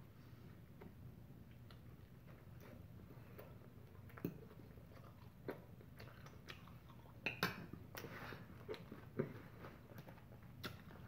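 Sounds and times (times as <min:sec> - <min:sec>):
quiet chewing: 0:00.6 - 0:11.0.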